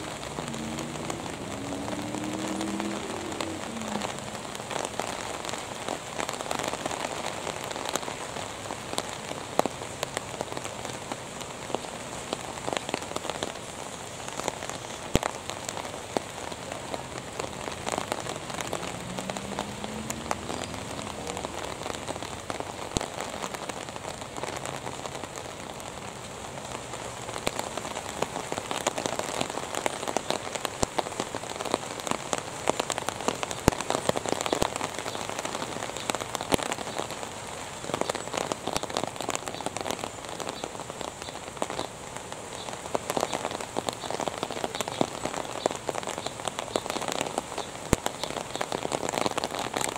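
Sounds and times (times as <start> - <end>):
raindrops ticking: 0.0 - 49.9
steady rainfall hiss: 0.0 - 49.9.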